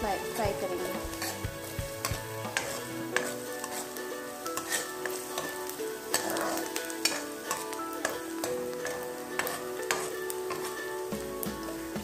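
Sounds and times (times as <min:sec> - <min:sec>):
food sizzling in hot oil: 0:00.0 - 0:12.0
steel spoon scraping a wok: 0:00.1 - 0:11.8.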